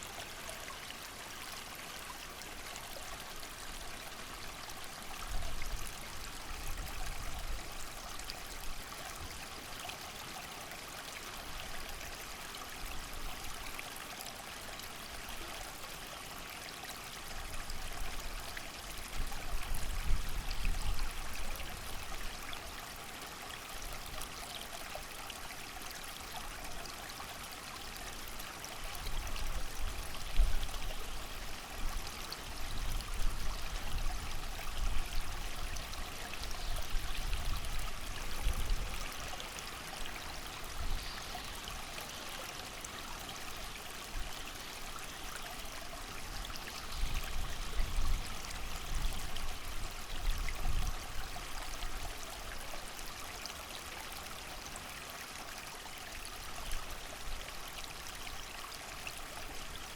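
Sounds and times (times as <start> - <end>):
creek running: 0.0 - 59.9
rain: 0.0 - 59.9.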